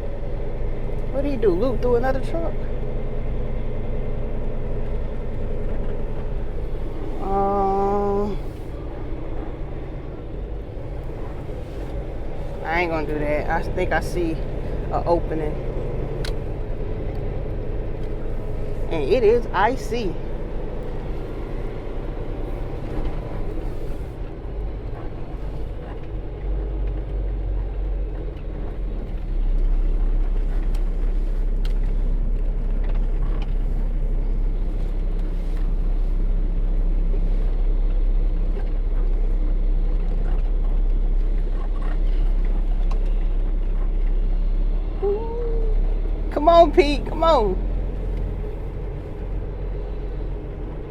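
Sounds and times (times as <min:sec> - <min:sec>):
truck diesel engine running: 0:00.0 - 0:50.9.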